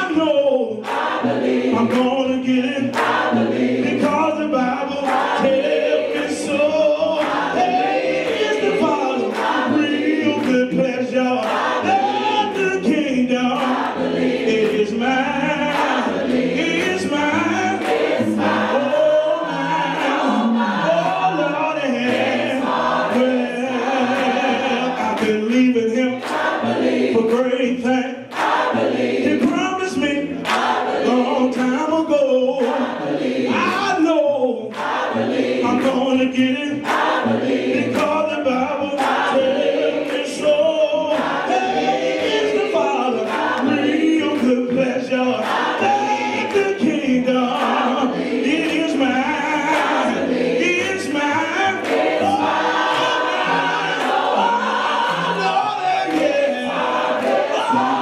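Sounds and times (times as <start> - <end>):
group singing gospel song: 0.0 - 58.0.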